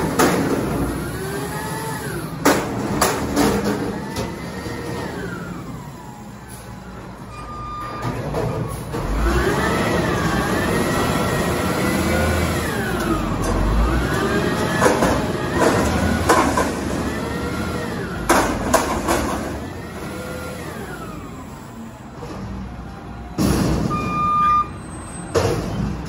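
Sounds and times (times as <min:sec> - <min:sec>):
truck engine and hydraulic pump whine: 0:00.0 - 0:26.0.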